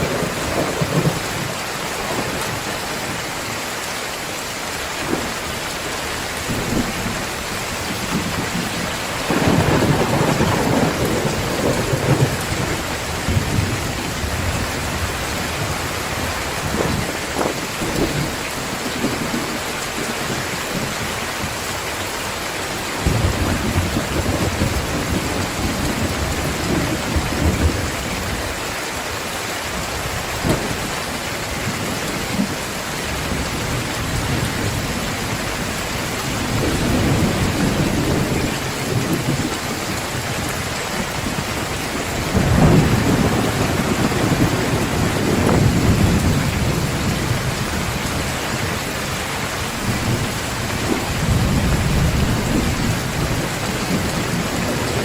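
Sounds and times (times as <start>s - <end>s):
thunder rolling: 0.0s - 3.2s, 6.4s - 21.0s, 23.0s - 28.6s, 29.8s - 49.2s, 49.8s - 55.0s
heavy rain falling: 0.0s - 55.0s.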